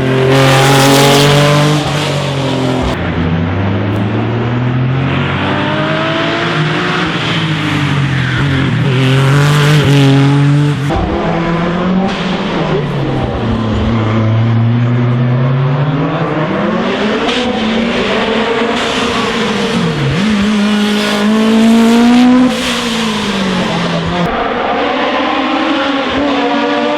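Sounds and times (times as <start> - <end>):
racing car engine revving: 0.0 - 26.9.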